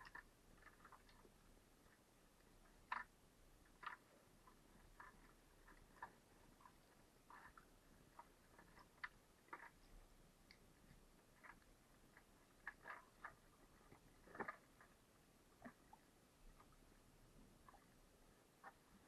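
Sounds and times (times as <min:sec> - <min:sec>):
faint small clicks and ticks: 0:00.0 - 0:19.0.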